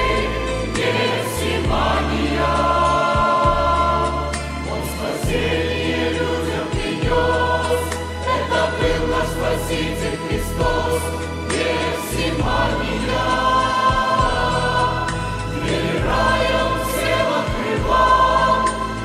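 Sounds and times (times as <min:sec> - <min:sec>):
choir singing a slow hymn: 0:00.0 - 0:19.0.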